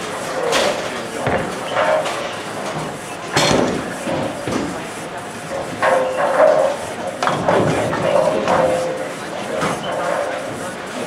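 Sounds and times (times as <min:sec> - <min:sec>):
murmur of voices: 0:00.0 - 0:11.0.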